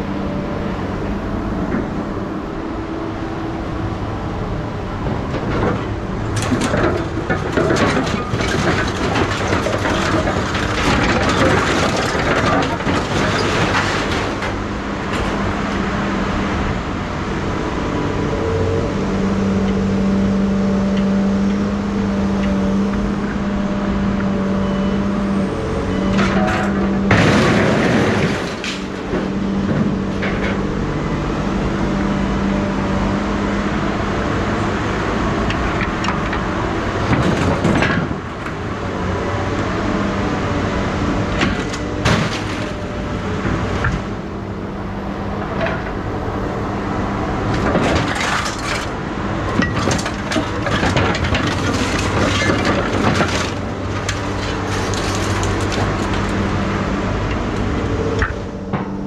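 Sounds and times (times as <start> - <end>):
engine hum: 0.0 - 59.0.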